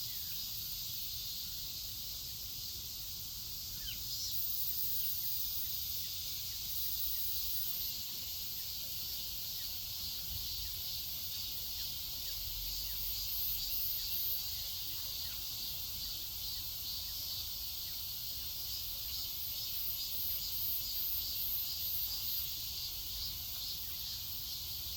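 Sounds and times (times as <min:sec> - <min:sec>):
insect chorus trilling: 0:00.0 - 0:24.9.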